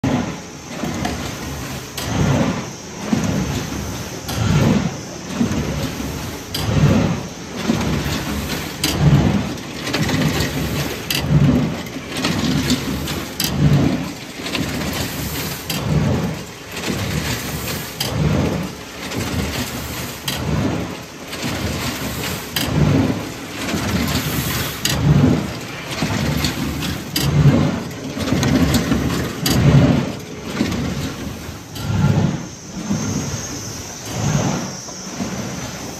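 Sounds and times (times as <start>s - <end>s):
die cutter machine rumbling: 0.0s - 35.9s.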